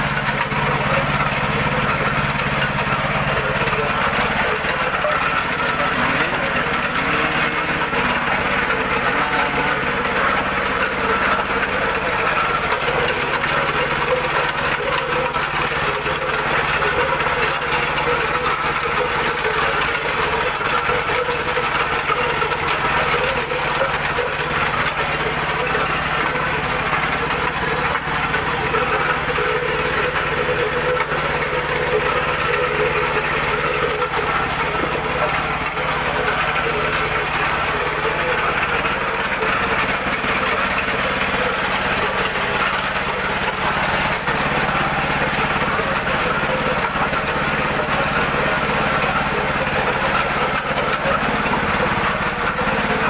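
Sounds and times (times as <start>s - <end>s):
small engine running: 0.0s - 53.0s.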